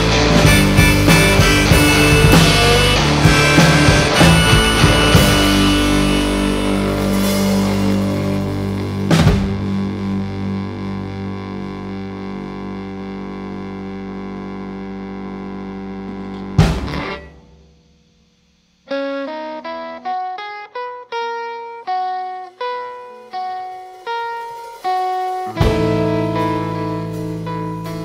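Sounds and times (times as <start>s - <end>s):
rock band final chord: 0.0s - 13.6s, 15.5s - 17.8s, 18.9s - 28.0s
electric guitar picking single notes: 0.0s - 17.7s, 18.9s - 28.0s.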